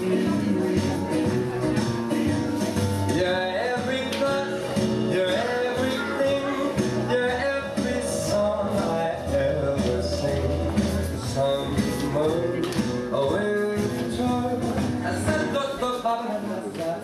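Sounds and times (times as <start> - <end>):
country dance music: 0.0 - 17.0
guitar: 0.0 - 17.0
person singing: 0.0 - 17.0.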